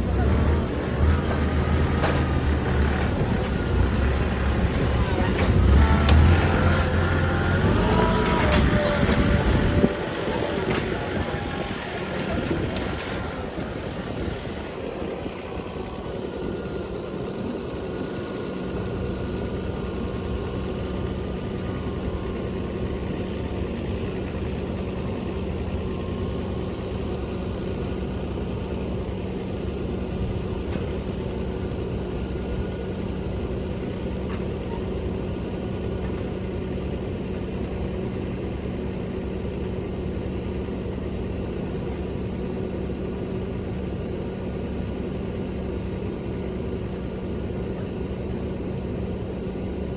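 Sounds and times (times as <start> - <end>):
truck engine running: 0.0 - 49.9.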